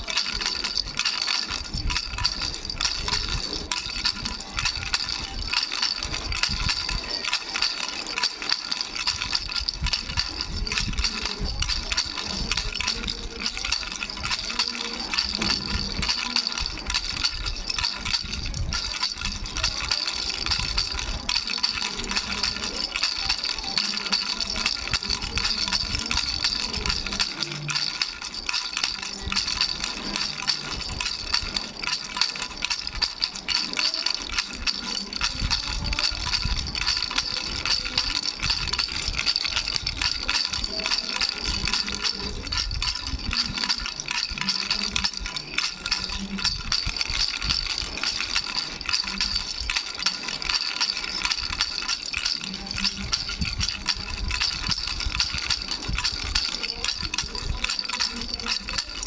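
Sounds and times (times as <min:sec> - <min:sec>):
baby rattle bells jingling: 0:00.0 - 0:59.0.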